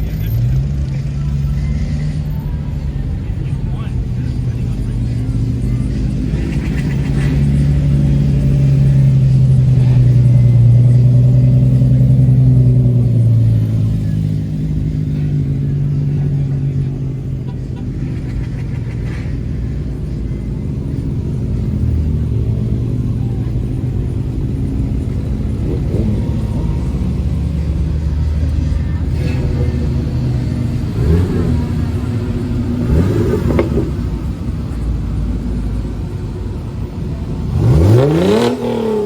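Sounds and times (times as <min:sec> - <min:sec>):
car engine rumbling at low revs: 0:00.0 - 0:39.0.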